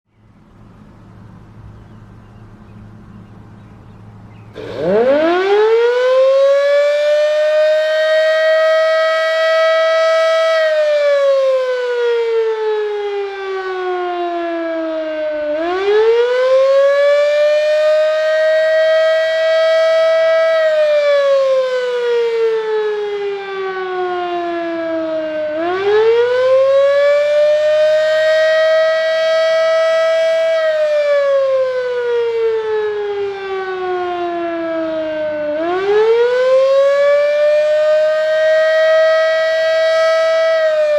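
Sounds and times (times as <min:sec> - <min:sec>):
fire siren winding up and down: 0:04.5 - 0:40.9.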